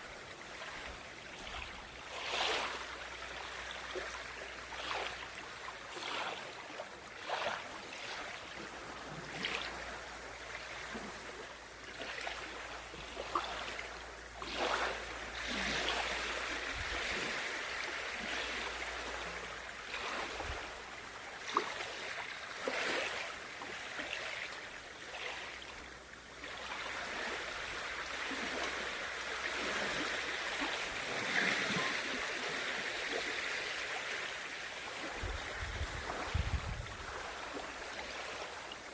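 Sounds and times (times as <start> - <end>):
water lapping at shore: 0.0 - 38.9.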